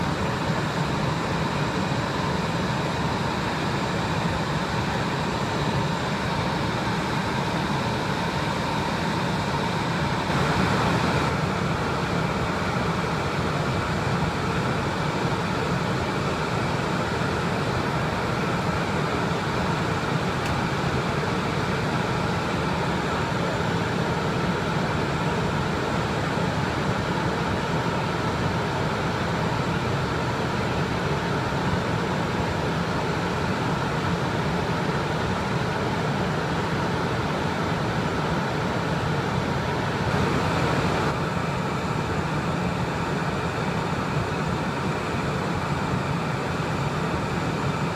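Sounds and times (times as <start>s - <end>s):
faint steady whine: 0.0s - 47.9s
jet engine hum: 0.0s - 47.9s.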